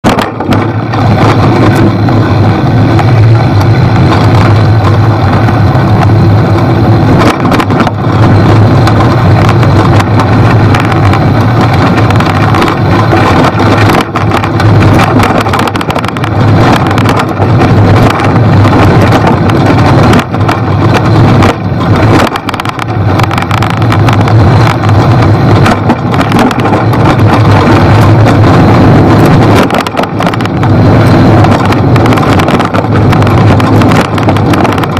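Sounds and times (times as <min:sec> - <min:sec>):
bicycle knocking and rattling: 0:00.0 - 0:34.9
wind and tyre rumble: 0:00.0 - 0:34.9.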